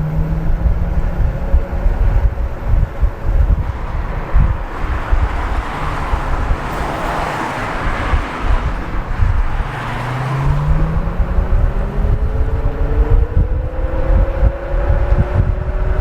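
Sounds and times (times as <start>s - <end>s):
road and traffic noise: 0.0s - 16.0s
vehicle passing: 0.0s - 16.0s
wind buffeting microphone: 0.0s - 16.0s.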